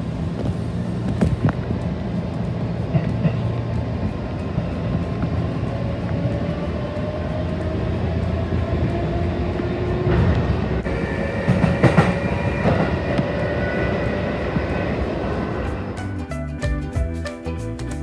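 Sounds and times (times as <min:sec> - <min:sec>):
train motor whine rising: 0:00.0 - 0:16.2.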